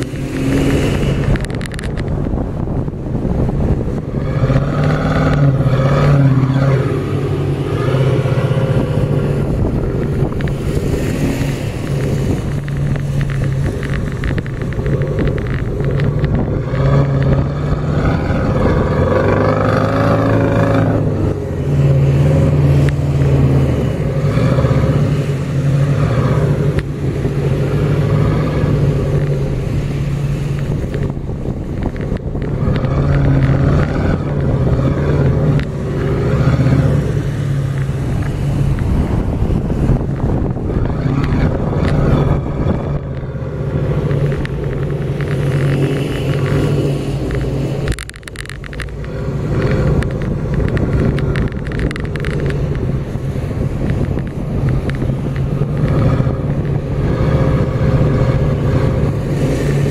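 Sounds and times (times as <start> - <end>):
suv engine running under load: 0.0 - 59.9.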